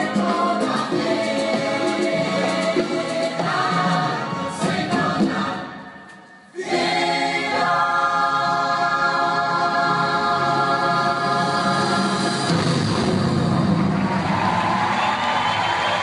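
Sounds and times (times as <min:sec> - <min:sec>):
choir singing in harmony: 0:00.0 - 0:12.9.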